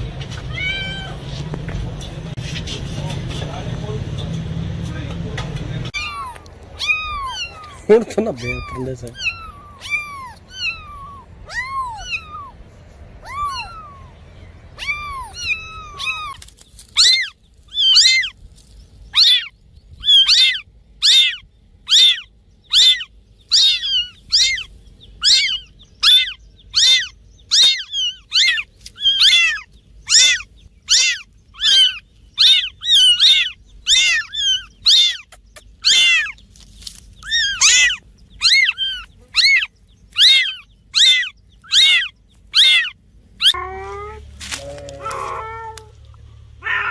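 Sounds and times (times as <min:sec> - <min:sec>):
cats meowing: 0:00.3 - 0:01.3, 0:05.9 - 0:18.4, 0:19.2 - 0:36.4, 0:37.2 - 0:46.9.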